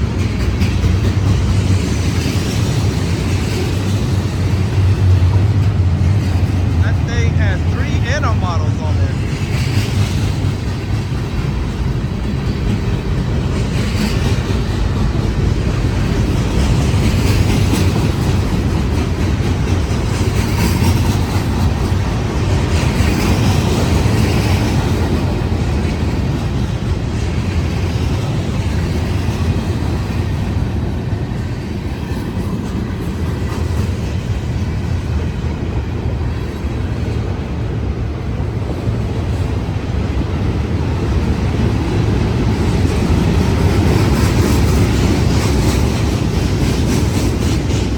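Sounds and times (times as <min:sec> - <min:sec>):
freight train wheels rumbling: 0:00.0 - 0:47.9.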